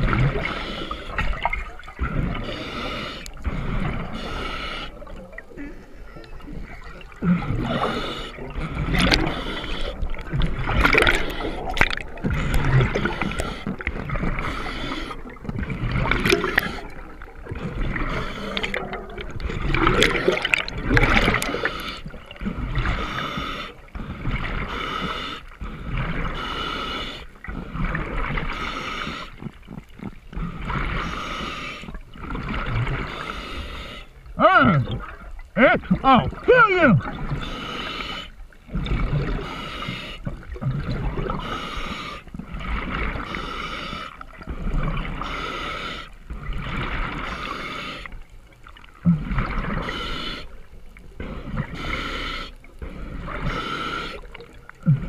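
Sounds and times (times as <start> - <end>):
water gurgling and bubbling: 0.0 - 55.0.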